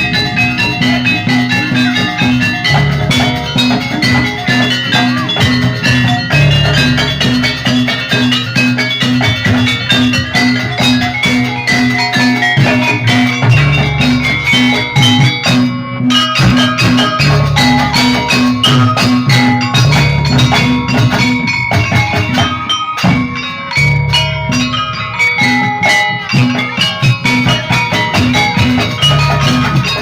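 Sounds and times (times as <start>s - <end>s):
drums: 0.0s - 30.0s
metal mallet instruments: 0.0s - 30.0s.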